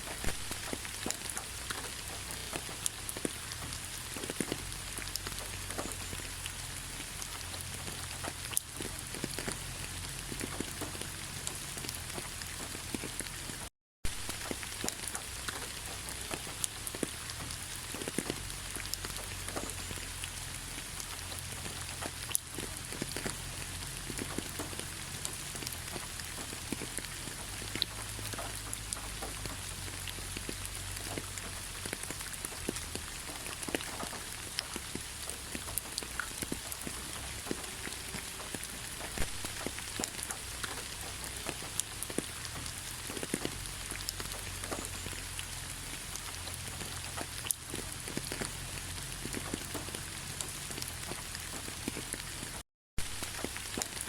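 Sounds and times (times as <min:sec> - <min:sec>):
rain falling: 0:00.0 - 0:54.0
raindrops ticking: 0:00.0 - 0:54.0.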